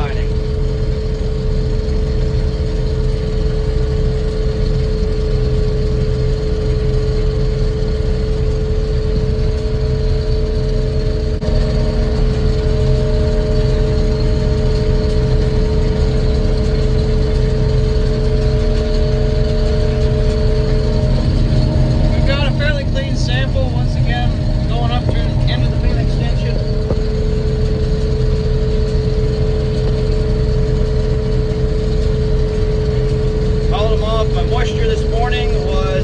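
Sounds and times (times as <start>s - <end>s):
higher whine: 0.0s - 3.5s, 6.7s - 36.0s
combine harvester engine drone: 0.0s - 36.0s
steady whine: 0.0s - 36.0s.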